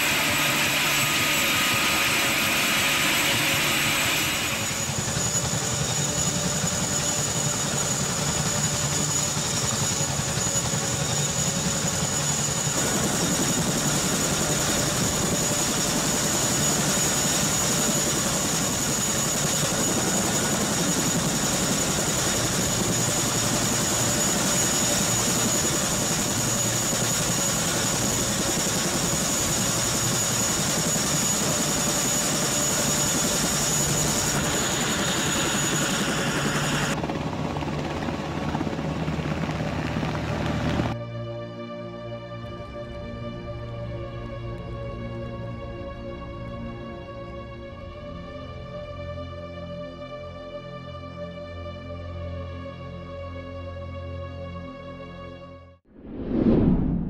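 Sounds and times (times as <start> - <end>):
helicopter turbine and rotor noise: 0.0 - 51.3.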